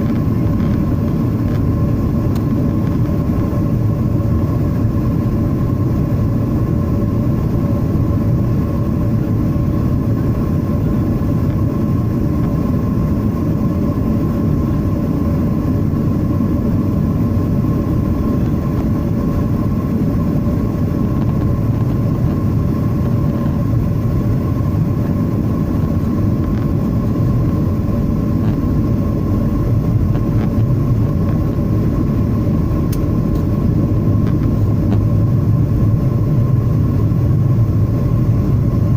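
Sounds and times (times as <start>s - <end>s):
jet engines running in flight: 0.0s - 38.9s.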